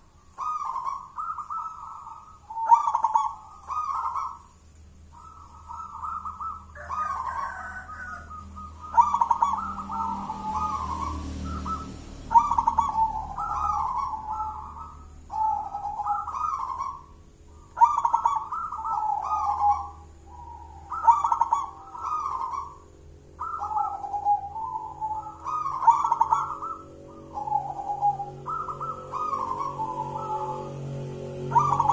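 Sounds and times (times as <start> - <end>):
dove cooing: 0.0 - 31.9.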